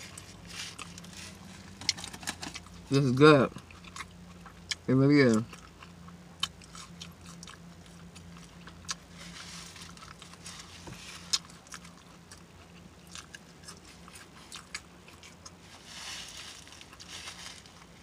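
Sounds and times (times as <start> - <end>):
person chewing with lips smacking: 0.0 - 2.8, 3.5 - 15.6
faint low hum: 0.0 - 18.0.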